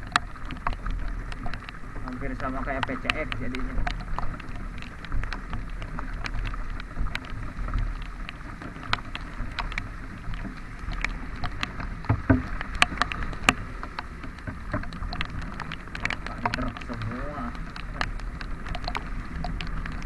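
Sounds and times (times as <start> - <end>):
sharp ticks and taps: 0.0 - 20.0.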